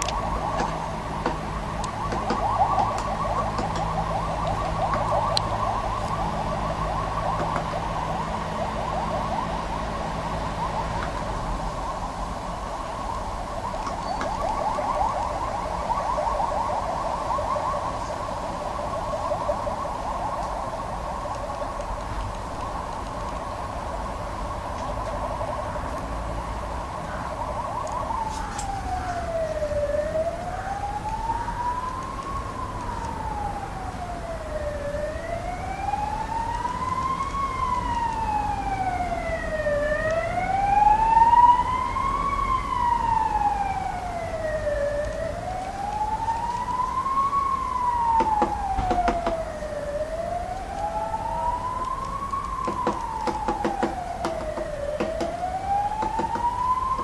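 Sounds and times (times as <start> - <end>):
emergency siren yelp and wail: 0.0 - 57.0.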